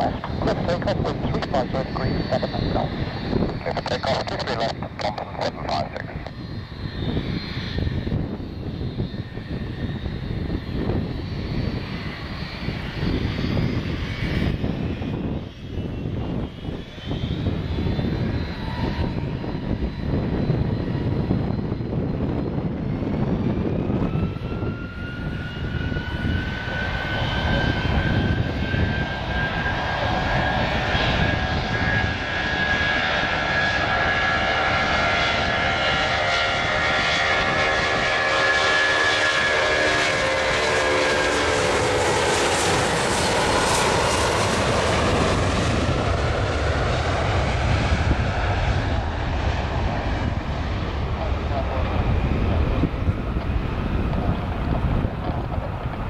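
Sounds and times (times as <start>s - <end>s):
jet engines rumbling: 0.0s - 56.0s
jet engines whining: 0.0s - 56.0s.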